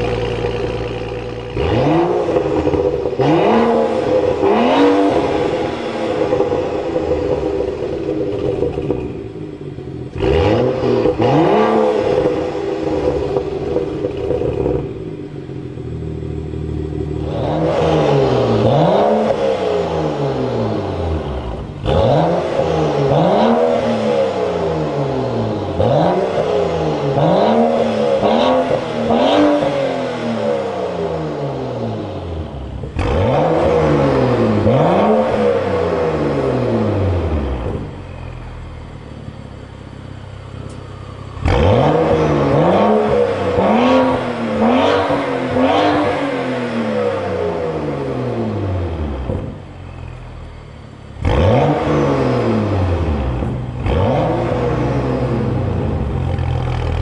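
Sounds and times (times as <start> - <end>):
car engine idling: 0.0 - 57.0
car engine revving: 0.0 - 57.0.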